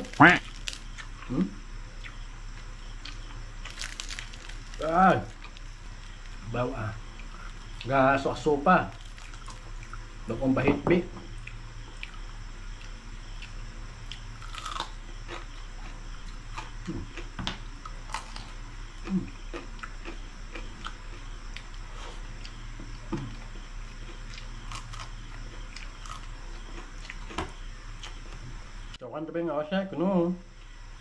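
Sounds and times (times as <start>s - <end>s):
crunchy chewing: 0.0s - 10.3s, 10.9s - 29.0s.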